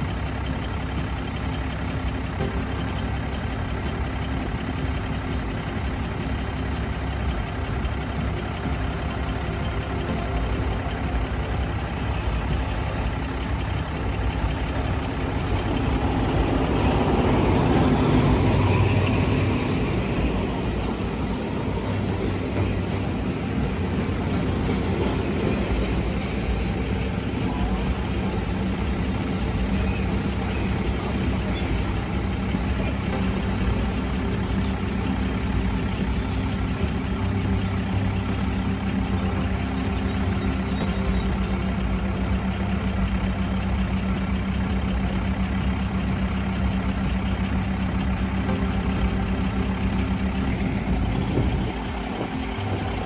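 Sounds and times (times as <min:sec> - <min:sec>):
diesel train engine hum: 0:00.0 - 0:53.0.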